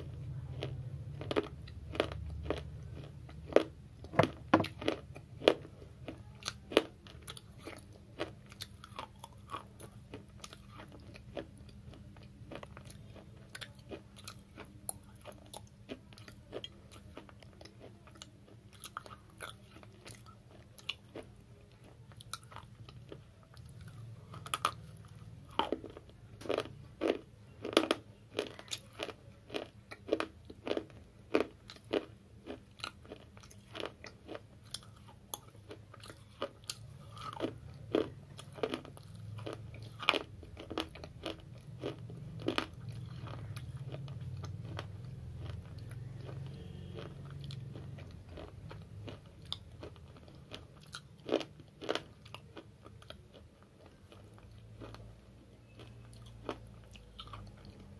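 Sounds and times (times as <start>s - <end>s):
gritty chewing crunches: 0.0s - 57.9s.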